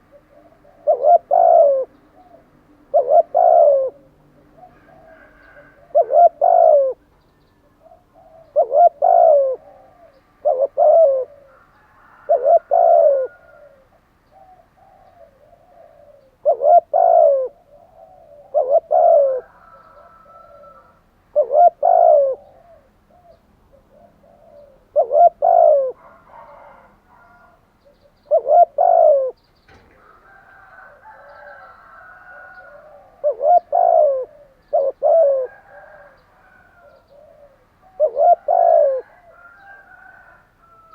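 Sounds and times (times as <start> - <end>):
small birds chirping: 0.0 - 12.2, 14.2 - 39.9
dove cooing: 0.0 - 40.9.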